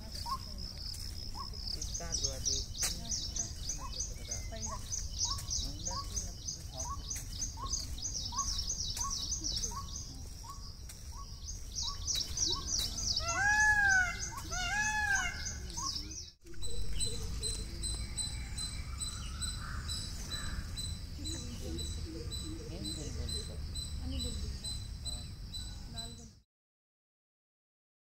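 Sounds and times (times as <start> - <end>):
arched bird calls: 0.0 - 26.4
high falling bird chirps: 1.3 - 26.4.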